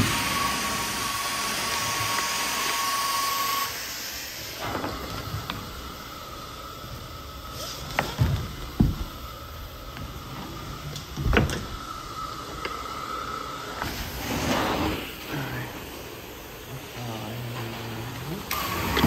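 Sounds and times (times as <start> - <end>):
hose hiss and whine: 0.0 - 19.0
vacuum suction whine: 0.0 - 19.0.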